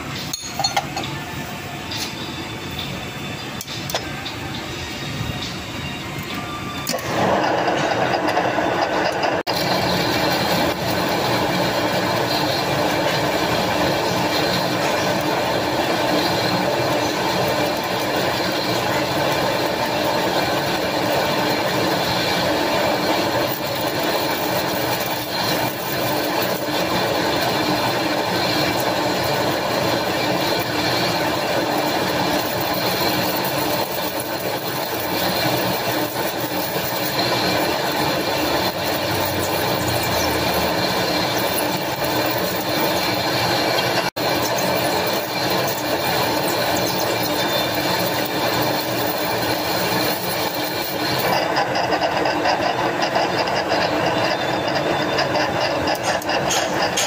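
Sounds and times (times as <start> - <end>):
metal lathe running: 0.0 - 57.0.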